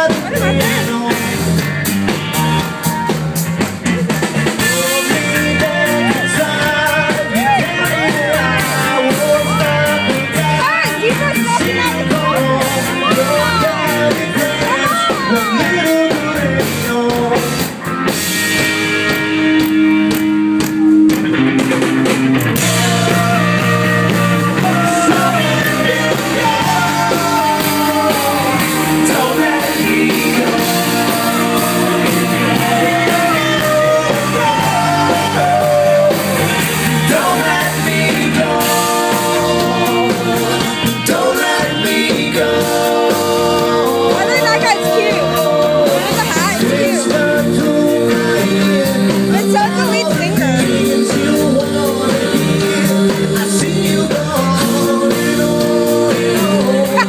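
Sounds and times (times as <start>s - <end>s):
person singing lead vocals: 0.0s - 3.1s, 4.5s - 18.0s, 22.5s - 57.0s
drum kit: 0.0s - 57.0s
electric guitars: 0.0s - 57.0s.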